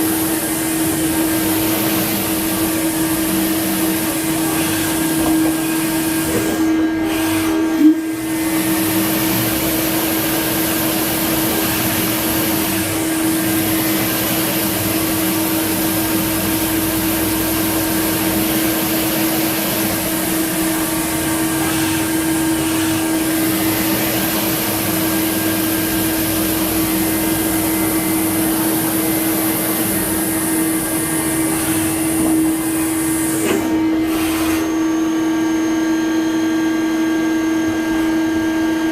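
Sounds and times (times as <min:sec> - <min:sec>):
lathe machine humming: 0:00.0 - 0:38.9.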